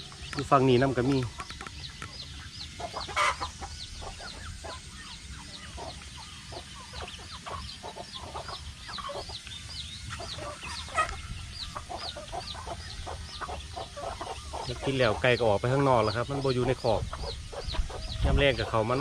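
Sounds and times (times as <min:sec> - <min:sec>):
chickens clucking: 0:00.0 - 0:19.0
high repeated peeping: 0:00.0 - 0:19.0.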